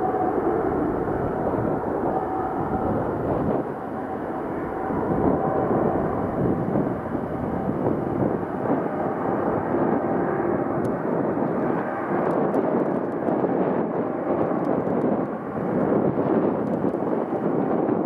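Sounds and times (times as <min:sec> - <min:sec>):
jet engine roar with whine: 0:00.0 - 0:18.0.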